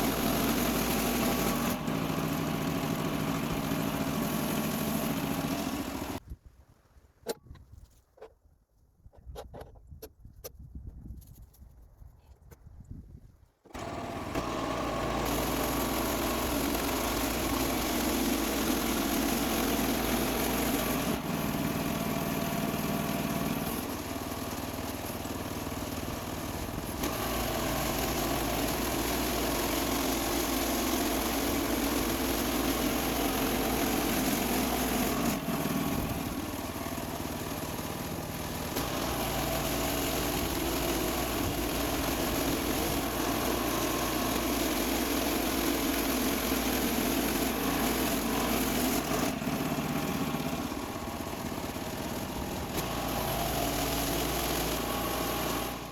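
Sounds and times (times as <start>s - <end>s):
sawmill gasoline engine running: 0.0s - 6.2s, 13.7s - 55.9s.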